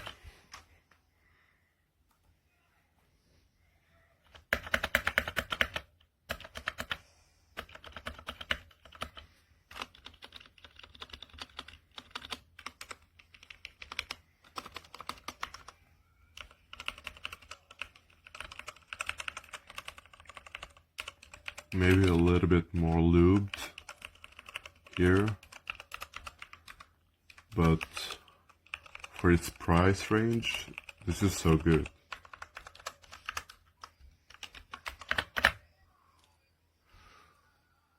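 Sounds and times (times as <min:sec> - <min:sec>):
mechanical keyboard typing: 0:04.2 - 0:07.0, 0:07.6 - 0:35.6.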